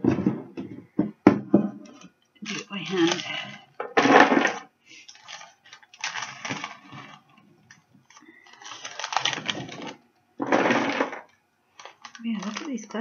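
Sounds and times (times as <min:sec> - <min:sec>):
granola crunching and rustling: 0:01.8 - 0:13.0.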